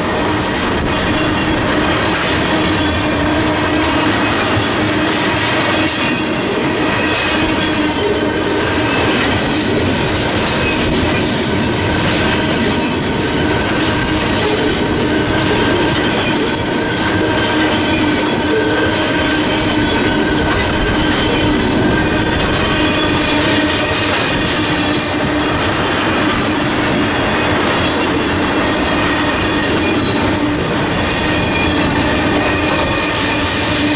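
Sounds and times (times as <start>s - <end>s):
freight train wheels clattering: 0.0s - 33.9s
whining wheels: 0.0s - 33.9s.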